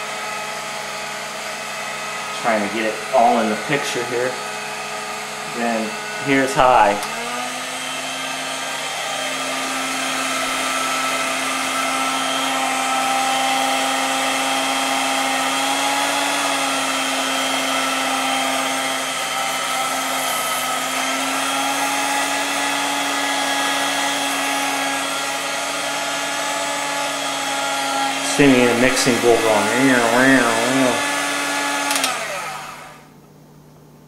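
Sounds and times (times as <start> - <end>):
hand mixer motor whirring: 0.0 - 33.2.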